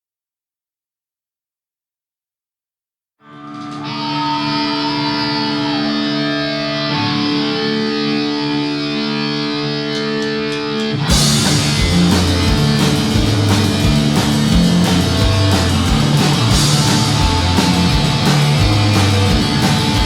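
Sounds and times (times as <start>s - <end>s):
electric guitar chord ringing: 3.3s - 20.0s
rock band playing: 3.4s - 20.0s.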